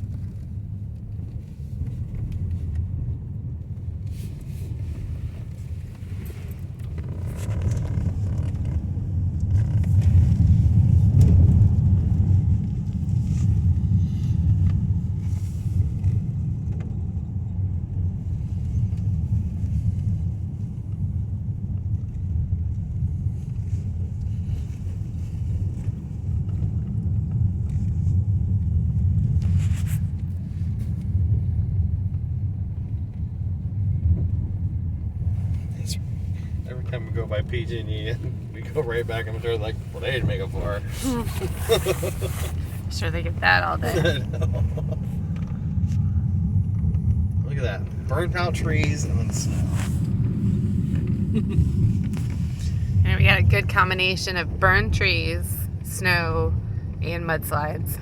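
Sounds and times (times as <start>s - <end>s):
tyre and engine rumble inside car: 0.0s - 58.0s.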